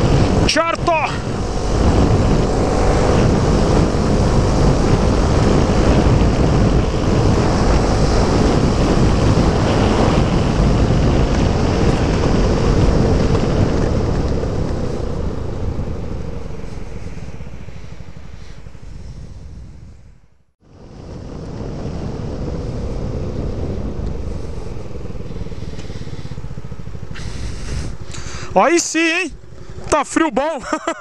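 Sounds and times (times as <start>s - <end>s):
scooter engine running: 0.0s - 19.9s, 20.8s - 31.0s
wind and road noise on mic: 0.0s - 31.0s.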